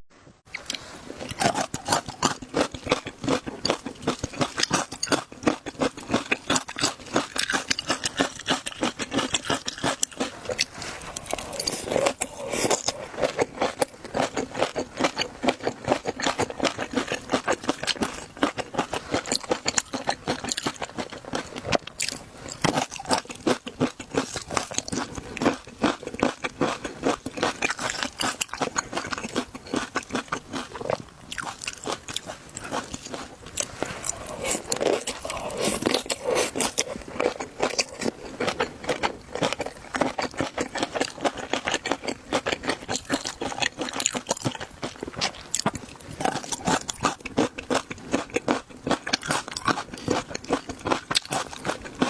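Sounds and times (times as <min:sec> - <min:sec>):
crunching and chewing: 0:00.5 - 0:52.0.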